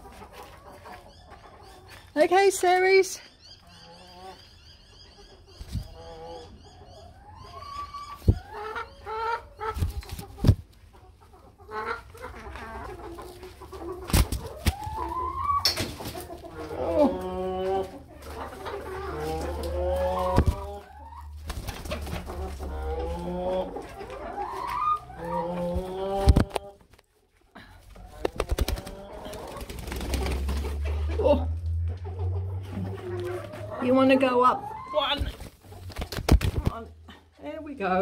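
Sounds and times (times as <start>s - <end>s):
hens clucking: 0.0s - 38.0s.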